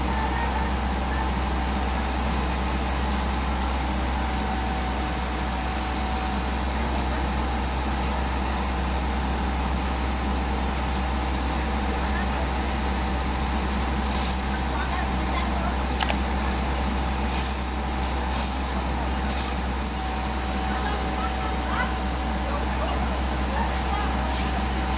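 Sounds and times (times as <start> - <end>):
excavator diesel engine rumbling: 0.0 - 24.9.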